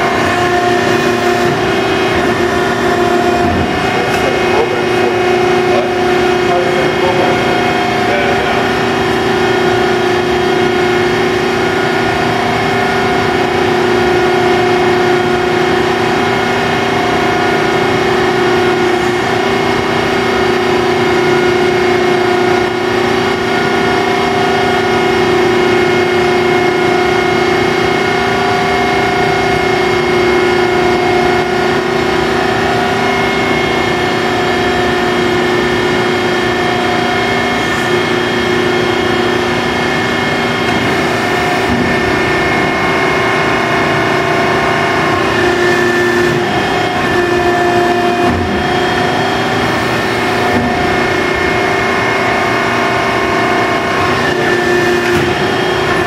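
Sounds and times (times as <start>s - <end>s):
hydraulic pump whining: 0.0s - 56.0s.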